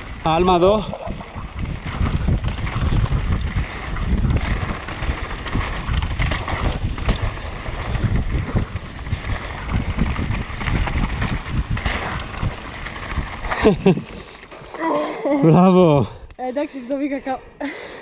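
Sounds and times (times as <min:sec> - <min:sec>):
bike rattling and knocking: 0:00.0 - 0:15.8
wind buffeting microphone: 0:00.0 - 0:17.6
tyres rolling over loose ground: 0:00.8 - 0:15.7.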